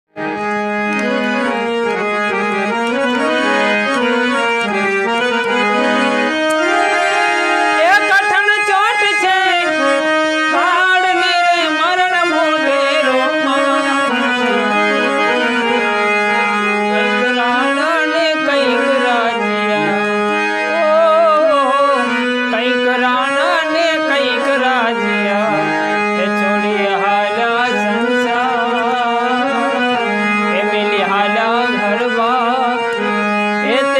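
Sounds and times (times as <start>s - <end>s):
harmonium playing: 0.1s - 33.9s
person singing: 0.9s - 33.9s.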